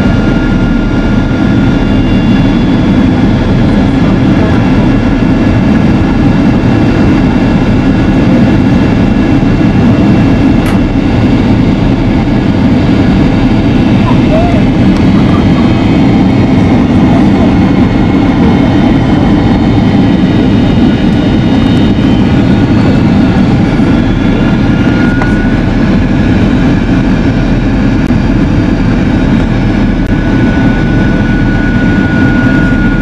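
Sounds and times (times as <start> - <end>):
jet engines and rushing air: 0.0 - 33.0
thin steady whine: 0.0 - 33.0.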